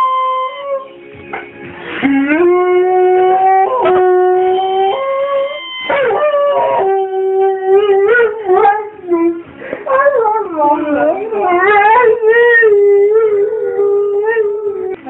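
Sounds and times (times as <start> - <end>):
dog howling: 2.0 - 15.0.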